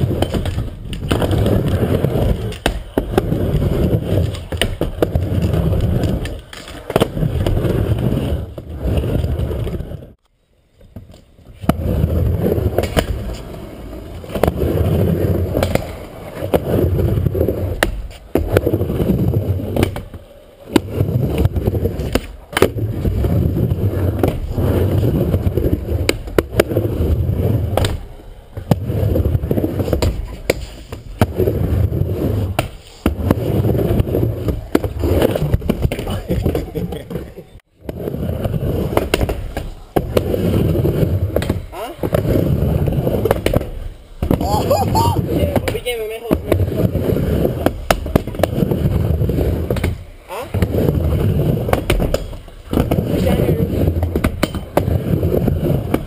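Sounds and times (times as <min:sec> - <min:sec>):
skateboard wheels rolling on concrete: 0:00.0 - 0:56.0.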